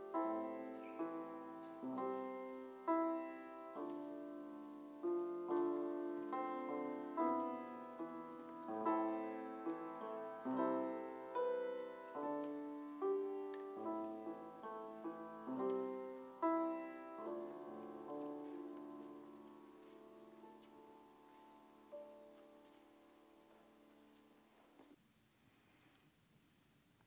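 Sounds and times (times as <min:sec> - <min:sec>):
slow gentle piano piece: 0:00.0 - 0:25.0.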